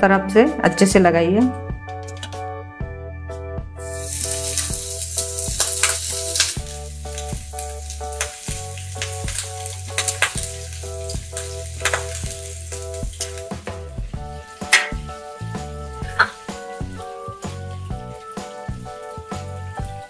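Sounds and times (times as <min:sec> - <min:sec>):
background music with steady beat: 0:00.0 - 0:20.0
fish sizzling in hot oil: 0:03.8 - 0:20.0.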